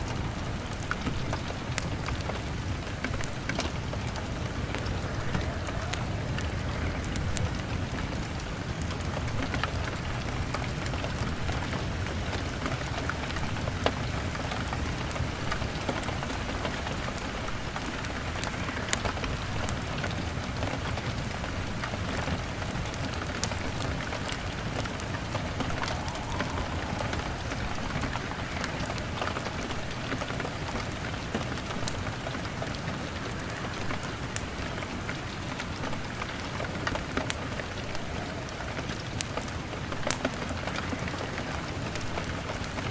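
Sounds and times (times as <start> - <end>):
rain beating on a window: 0.0 - 42.9.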